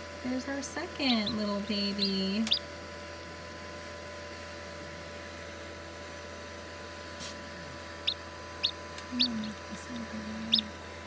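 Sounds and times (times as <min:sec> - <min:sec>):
incubator fan humming: 0:00.0 - 0:11.0.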